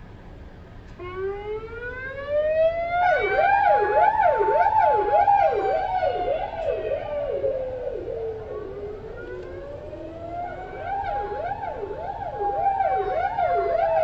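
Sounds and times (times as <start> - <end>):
police siren wailing: 1.0 - 14.0
police siren yelping: 1.0 - 14.0.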